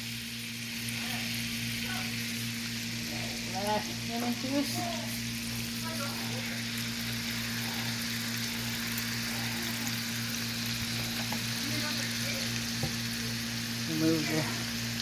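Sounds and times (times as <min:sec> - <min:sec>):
pan drippings sizzling: 0:00.0 - 0:15.0.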